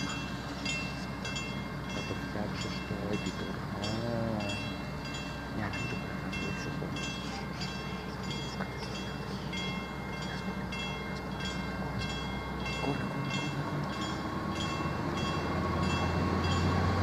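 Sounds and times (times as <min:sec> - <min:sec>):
high-pitched ringing: 0:00.0 - 0:17.0
train rumbling: 0:00.0 - 0:17.0.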